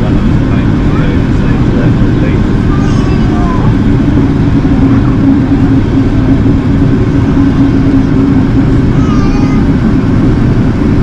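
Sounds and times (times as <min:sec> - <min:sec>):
airplane cabin roar: 0:00.0 - 0:11.0.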